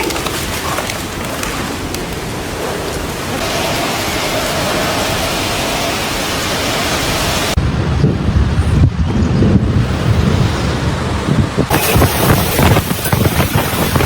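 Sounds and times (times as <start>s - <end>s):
heavy rain: 0.0s - 7.9s, 10.4s - 14.0s
storm wind: 0.0s - 14.0s
wind buffeting microphone: 0.0s - 14.0s.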